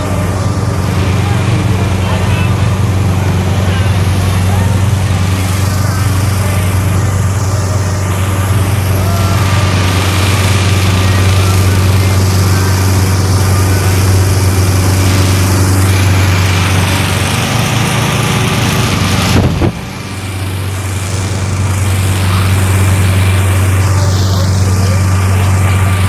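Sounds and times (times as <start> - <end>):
inflator fans running: 0.0 - 26.0.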